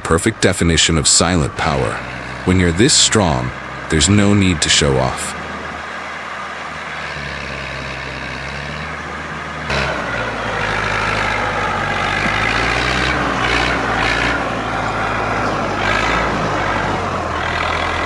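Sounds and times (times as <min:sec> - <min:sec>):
busy machine noise: 0:00.0 - 0:18.0
heavy machinery engine: 0:00.0 - 0:18.0.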